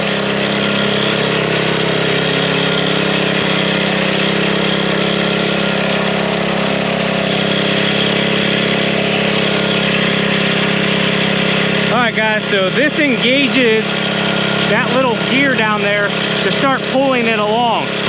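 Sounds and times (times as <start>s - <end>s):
small gas engine running: 0.0s - 18.0s.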